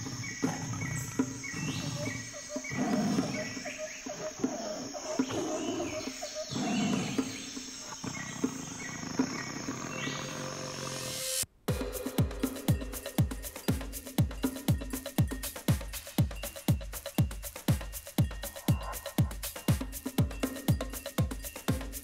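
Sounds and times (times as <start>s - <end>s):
short chirping calls: 0.0s - 11.1s, 12.4s - 22.0s.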